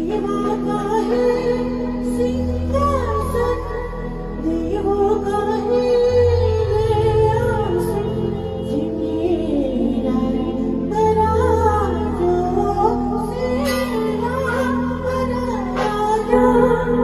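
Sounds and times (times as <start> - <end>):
instrumental backing with low bass: 0.0 - 17.0
woman singing: 0.0 - 17.0.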